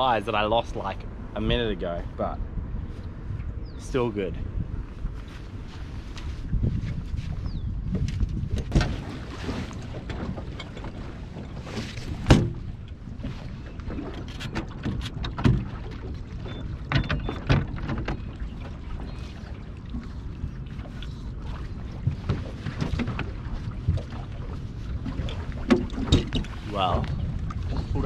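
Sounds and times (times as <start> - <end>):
low wind rumble: 0.0 - 28.0
waves lapping against hull: 0.0 - 28.0.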